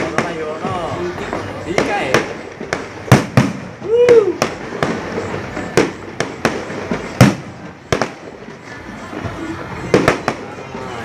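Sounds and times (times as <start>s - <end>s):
fireworks bangs: 0.0s - 11.0s
noisy background: 0.0s - 11.0s.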